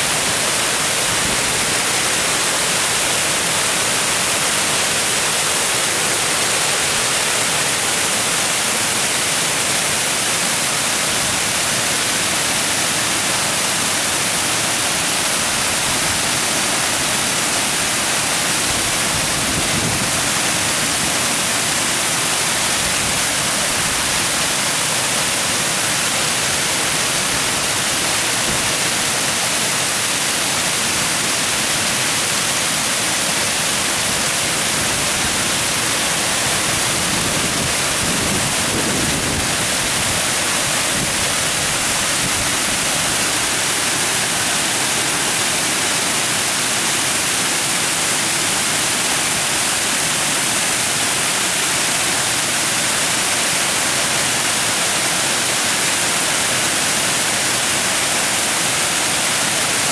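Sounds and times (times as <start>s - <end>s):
whitewater rushing over a weir: 0.0s - 59.9s.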